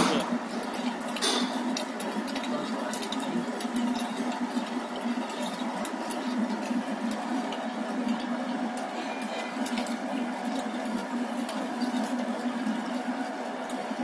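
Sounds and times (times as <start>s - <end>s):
pipe threading machine running: 0.0s - 14.0s.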